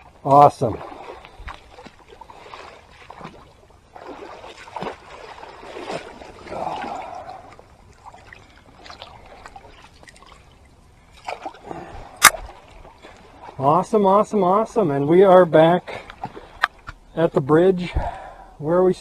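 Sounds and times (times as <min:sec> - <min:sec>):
river water splashing: 0:00.0 - 0:17.1.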